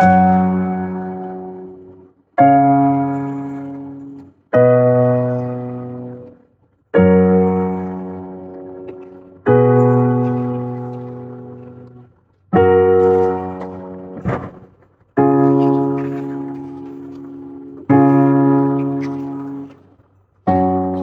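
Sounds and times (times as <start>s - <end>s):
keyboard piano chords: 0.0s - 21.0s.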